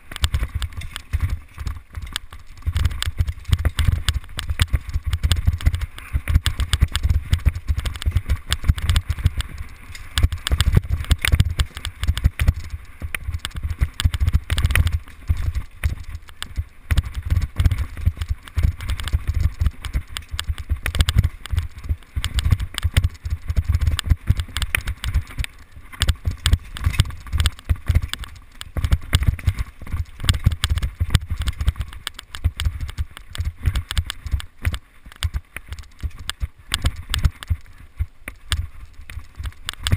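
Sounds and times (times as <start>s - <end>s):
bike clattering over rough trail: 0.0s - 39.9s.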